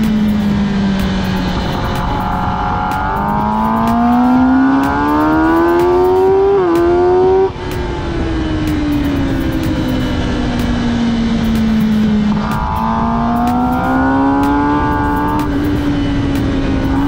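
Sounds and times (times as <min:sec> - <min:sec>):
racing motorcycle engine accelerating: 0:00.0 - 0:17.0.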